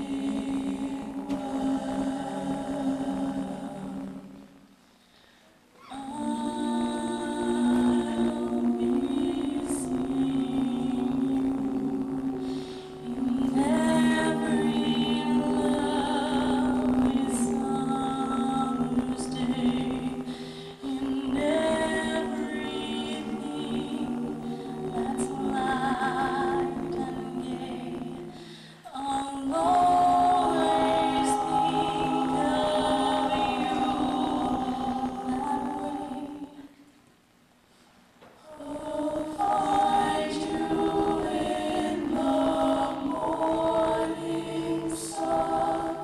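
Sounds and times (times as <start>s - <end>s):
choir singing: 0.0s - 4.6s, 5.8s - 36.9s, 38.4s - 46.0s.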